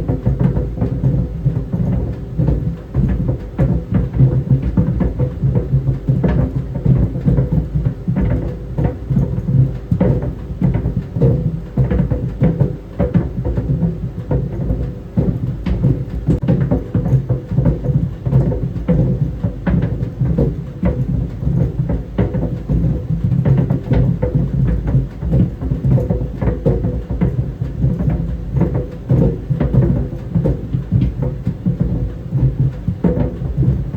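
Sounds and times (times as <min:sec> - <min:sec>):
balls thudding in dryer drum: 0:00.0 - 0:33.9.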